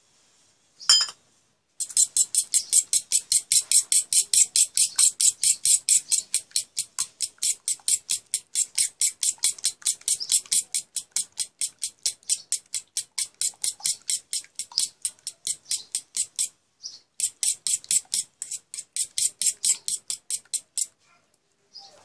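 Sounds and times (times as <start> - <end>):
eggs beaten in a bowl: 1.8 - 21.0.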